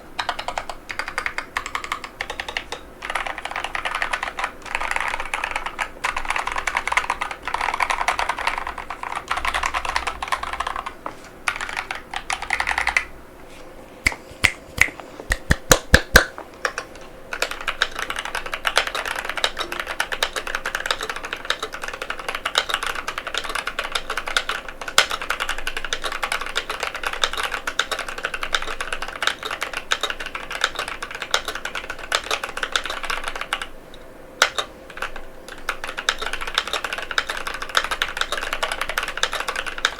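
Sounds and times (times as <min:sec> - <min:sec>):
fast typing on mechanical keyboard: 0:00.2 - 0:13.1, 0:15.5 - 0:33.7, 0:34.4 - 0:39.9.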